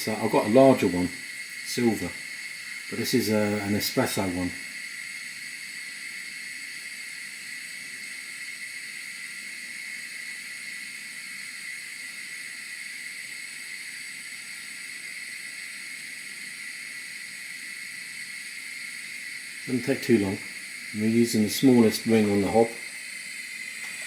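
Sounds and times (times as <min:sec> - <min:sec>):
gas burner hissing: 0:00.0 - 0:24.0.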